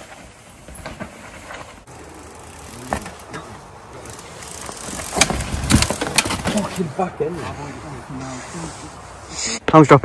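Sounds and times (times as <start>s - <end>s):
bike tyres rolling over dirt: 0.0s - 8.8s.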